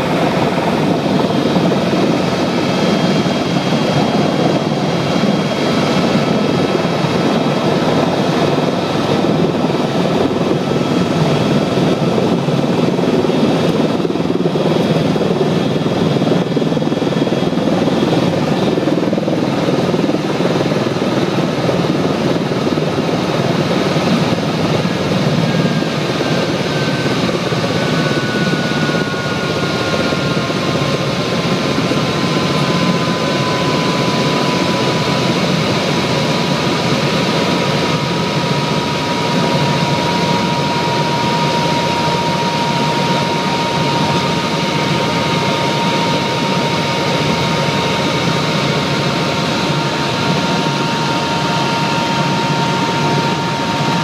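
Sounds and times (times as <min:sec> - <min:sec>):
helicopter engine and rotor: 0:00.0 - 0:54.0.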